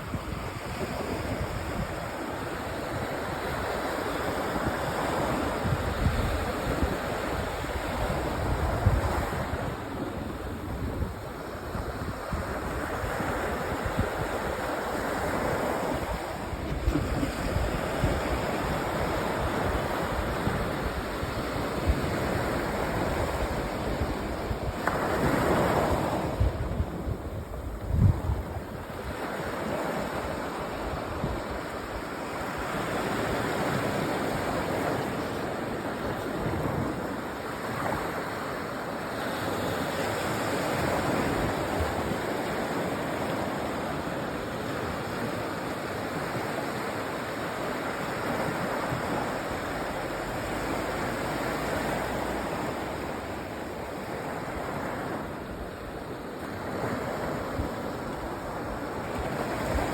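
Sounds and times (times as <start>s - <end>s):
waves washing up a beach: 0.0s - 59.9s.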